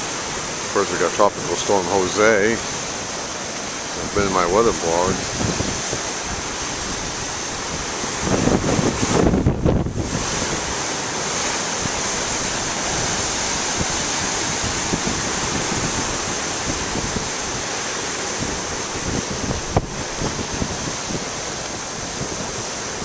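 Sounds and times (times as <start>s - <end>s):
surf breaking on rocks: 0.0s - 23.0s
wind noise on microphone: 1.2s - 23.0s.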